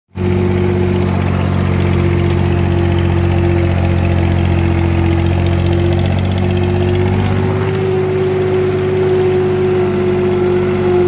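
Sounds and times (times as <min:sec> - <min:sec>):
tractor diesel engine running: 0:00.1 - 0:11.0.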